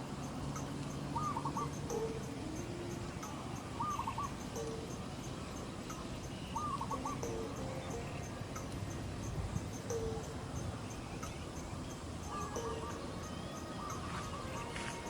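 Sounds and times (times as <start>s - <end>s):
birds calling: 0.0s - 15.0s
faint quick ticking: 0.0s - 15.0s
low cooing: 0.6s - 5.1s, 5.9s - 15.0s.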